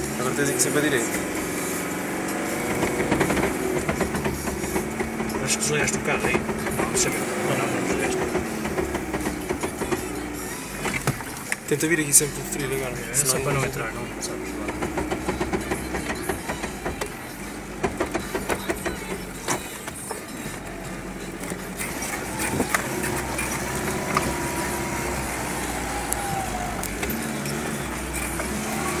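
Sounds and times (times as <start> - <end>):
car engine at low revs: 0.0 - 29.0
vehicle body rattling: 0.0 - 29.0.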